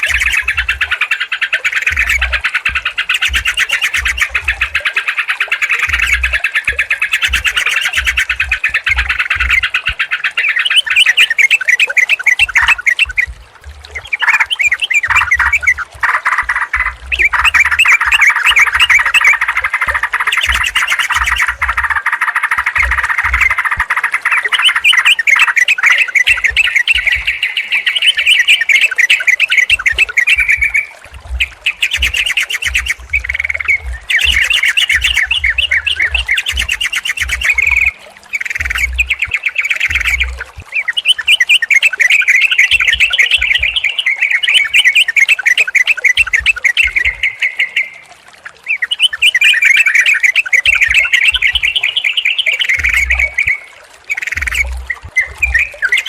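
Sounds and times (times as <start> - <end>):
bulbuls singing and chattering: 0.0 - 56.0.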